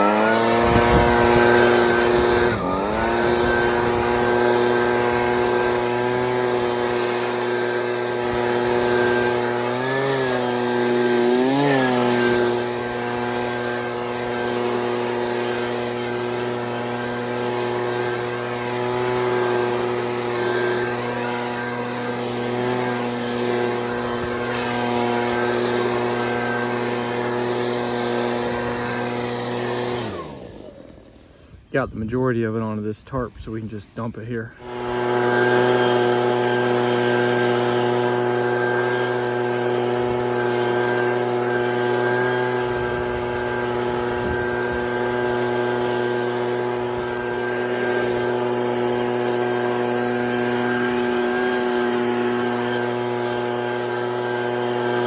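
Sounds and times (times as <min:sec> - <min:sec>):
leaf blower engine whining: 0:00.0 - 0:55.0.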